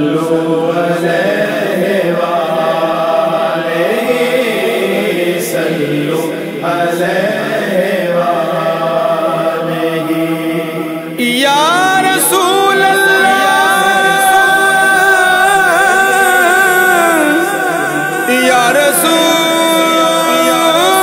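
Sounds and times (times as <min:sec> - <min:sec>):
male voices chanting: 0:00.0 - 0:21.0
voice singing long gliding notes: 0:00.0 - 0:21.0.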